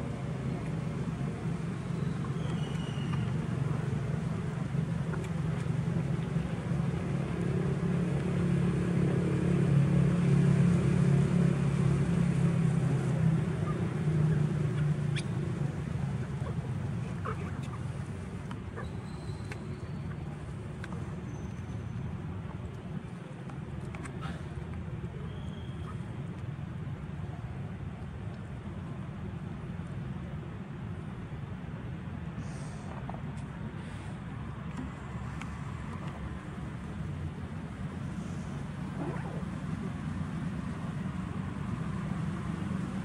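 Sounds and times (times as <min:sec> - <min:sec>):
vehicle engine hum passing: 0:00.0 - 0:27.8, 0:32.5 - 0:43.0.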